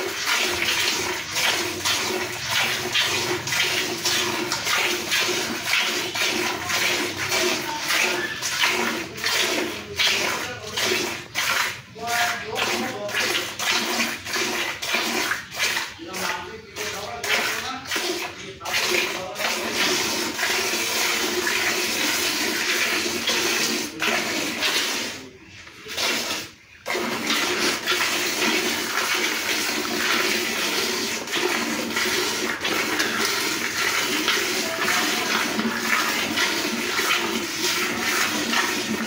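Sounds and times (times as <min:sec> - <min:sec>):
milk squirting into metal pail: 0:00.0 - 0:39.0.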